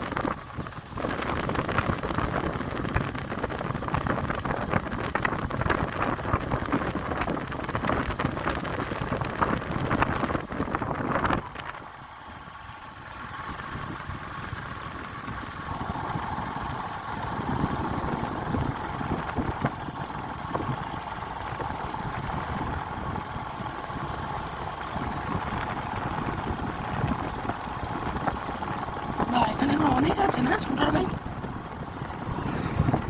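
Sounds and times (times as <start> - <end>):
motorcycle engine running: 0.0 - 33.0
wind rumbling on microphone: 0.0 - 33.0.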